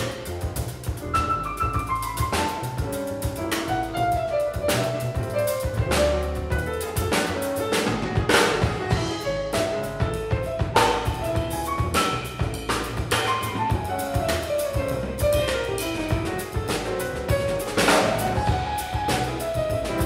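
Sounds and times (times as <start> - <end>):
drum kit with cymbals and snare: 0.0 - 20.0
piano: 0.0 - 20.0
plucked double bass: 0.0 - 20.0.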